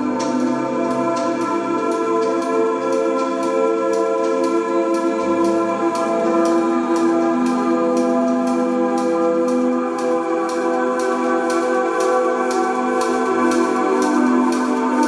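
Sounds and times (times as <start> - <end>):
high ticking beat: 0.0 - 15.0.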